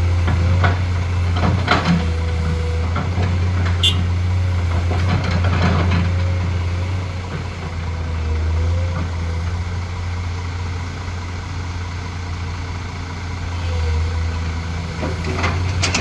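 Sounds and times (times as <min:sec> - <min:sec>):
heavy diesel machinery hum: 0:00.0 - 0:16.0.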